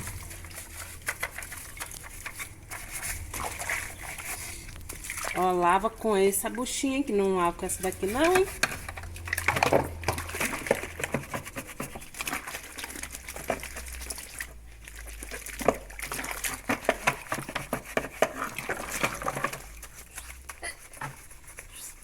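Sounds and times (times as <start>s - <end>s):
sponge scrubbing: 0.0s - 22.0s
water splashing: 0.0s - 22.0s.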